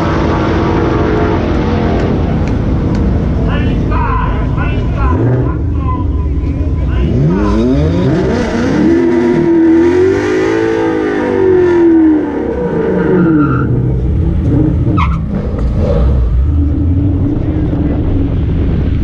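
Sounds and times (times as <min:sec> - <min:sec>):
race car engine revving: 0:00.0 - 0:19.0
tire noise: 0:00.0 - 0:19.0.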